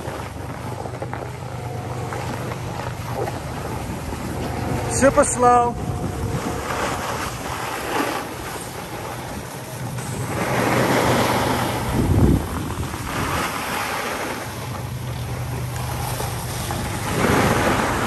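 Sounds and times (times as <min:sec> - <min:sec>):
skis scraping over snow: 0:00.0 - 0:18.0
wind buffeting microphone: 0:00.0 - 0:18.0.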